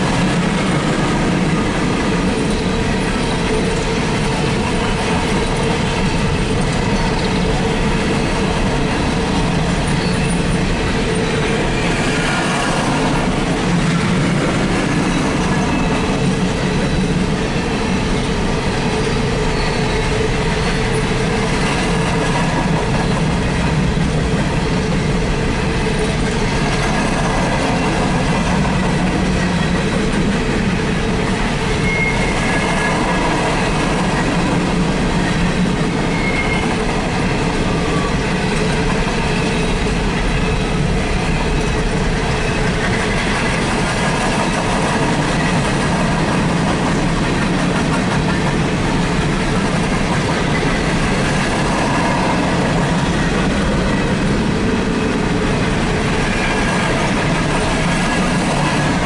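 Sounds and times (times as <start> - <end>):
freight wagons rumbling and rattling: 0.0 - 59.0.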